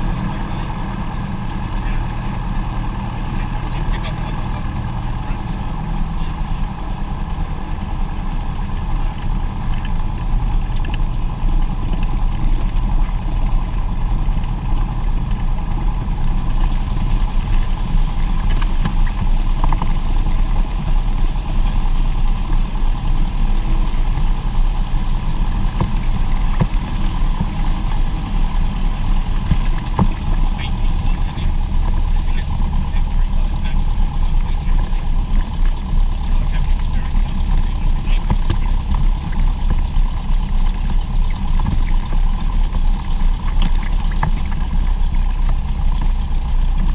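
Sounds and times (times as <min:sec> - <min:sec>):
propeller aircraft engine drone: 0:00.0 - 0:46.9.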